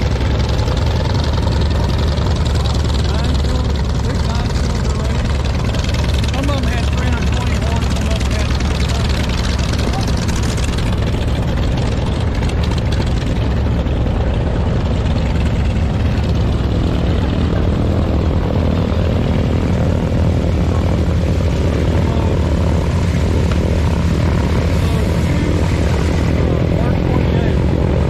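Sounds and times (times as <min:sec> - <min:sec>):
aircraft engines droning: 0:00.0 - 0:28.0.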